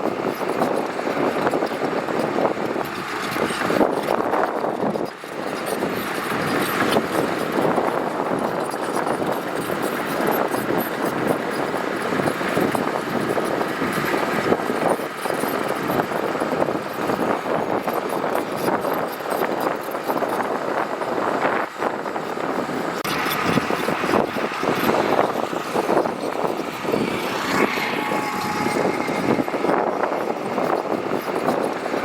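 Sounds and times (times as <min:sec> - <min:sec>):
heavy diesel engine drone: 0:00.0 - 0:32.0.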